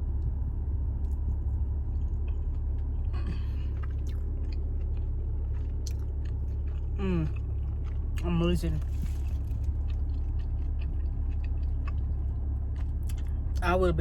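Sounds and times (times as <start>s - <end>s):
steady low hum: 0.0s - 14.0s
person chewing: 1.0s - 13.6s.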